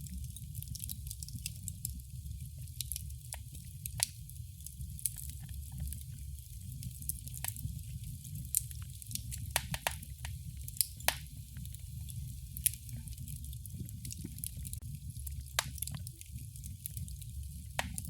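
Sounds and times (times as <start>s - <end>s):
wood fire crackling: 0.0s - 18.0s
sharp pops of burning wood: 2.7s - 18.0s.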